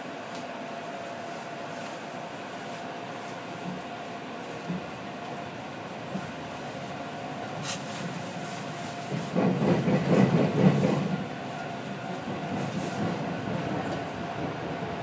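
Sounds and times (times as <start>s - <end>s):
electric train running on track: 0.0s - 15.0s.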